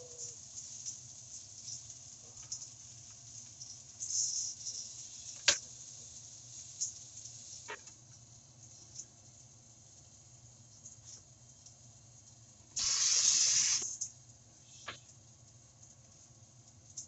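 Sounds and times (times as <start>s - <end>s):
food sizzling in a frying pan: 0.0s - 17.0s
range hood fan humming: 0.0s - 17.0s.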